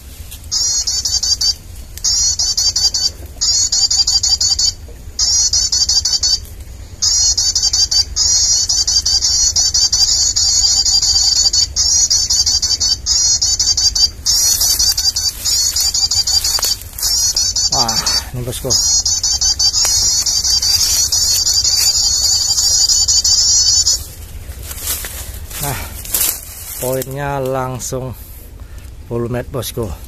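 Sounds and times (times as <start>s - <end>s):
shrill bird lure call: 0.5s - 6.4s, 7.0s - 27.0s.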